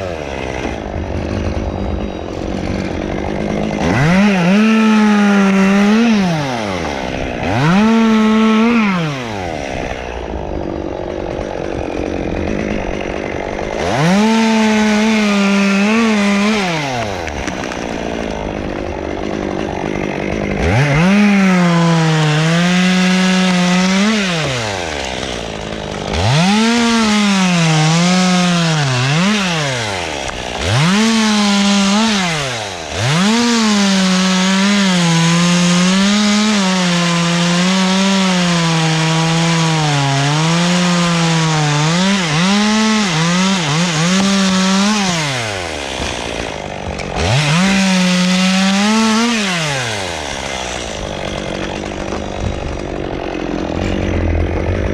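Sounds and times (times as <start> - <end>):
chainsaw revving cutting wood: 0.0 - 54.9.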